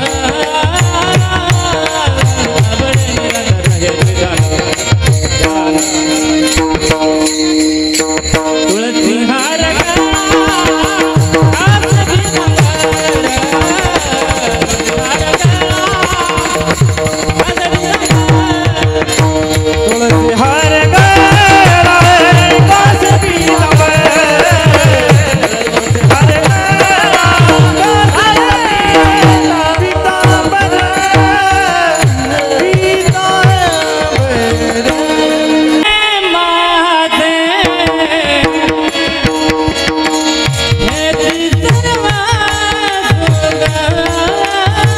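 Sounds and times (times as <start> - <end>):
person singing ornamented melody: 0.0 - 40.0.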